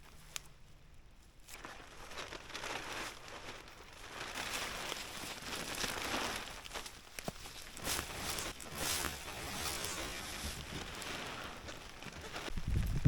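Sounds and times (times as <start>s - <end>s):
plastic tarp rustling: 1.3s - 13.0s.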